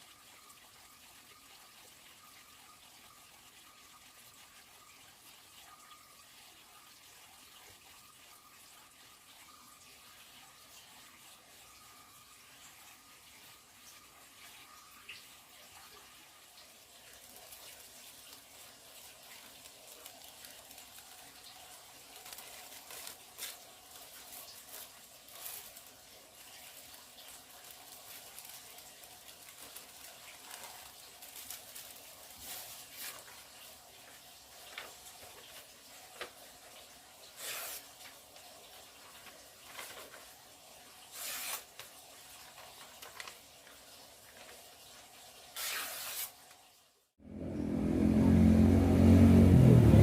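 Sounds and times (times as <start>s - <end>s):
faint running water: 0.0s - 49.4s.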